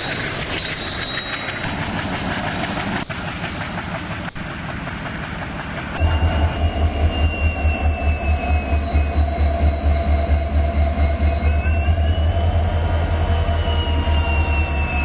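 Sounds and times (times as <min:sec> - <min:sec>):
high-pitched wheel squeals: 0:00.0 - 0:15.0
train rumbling on rails: 0:00.0 - 0:15.0.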